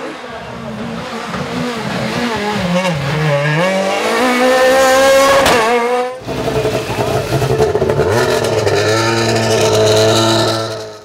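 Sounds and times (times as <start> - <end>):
rally car engine revving past: 0.8 - 11.0.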